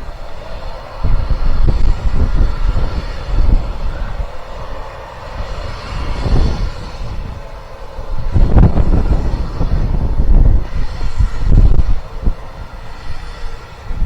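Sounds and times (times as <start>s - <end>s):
steam train low rumble: 0.0s - 14.0s
wind buffeting microphone: 0.0s - 14.0s.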